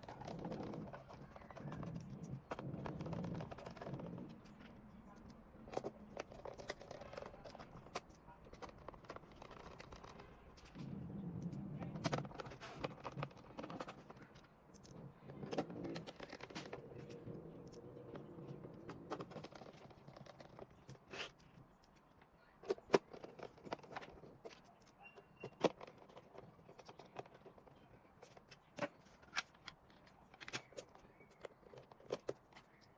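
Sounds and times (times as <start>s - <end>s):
handling noise rustling and scraping: 0.0s - 32.9s.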